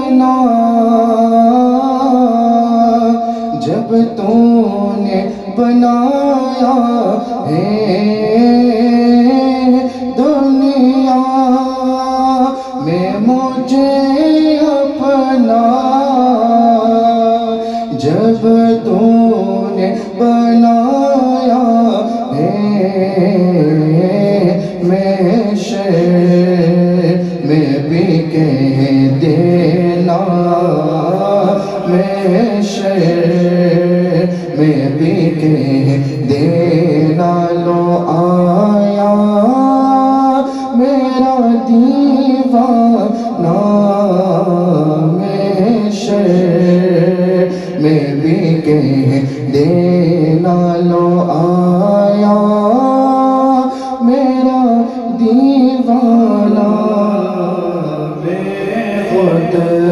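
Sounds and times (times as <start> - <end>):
men chanting into microphones: 0.0 - 59.9.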